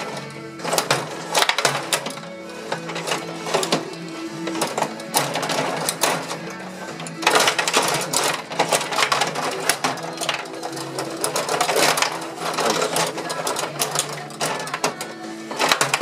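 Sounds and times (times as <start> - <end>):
table hockey clattering: 0.0 - 16.0.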